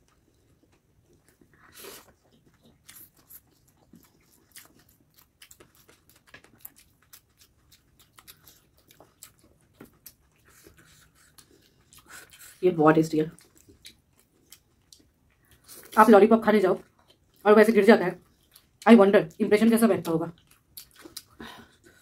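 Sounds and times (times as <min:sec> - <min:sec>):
close-up chewing and crunching: 0:00.0 - 0:16.2, 0:16.8 - 0:17.6, 0:18.2 - 0:22.0.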